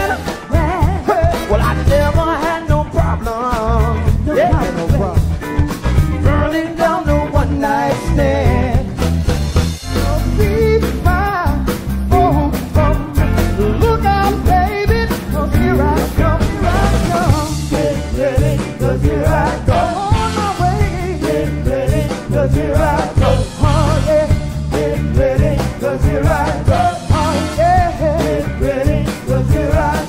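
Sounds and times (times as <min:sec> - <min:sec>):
person singing: 0:00.0 - 0:05.2, 0:09.9 - 0:30.0
soul band playing: 0:00.0 - 0:30.0.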